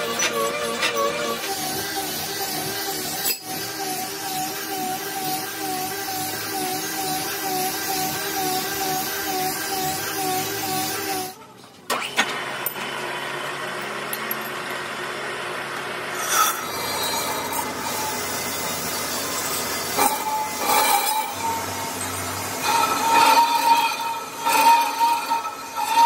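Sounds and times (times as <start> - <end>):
lathe tool cutting metal: 0.0 - 11.4, 16.1 - 26.0.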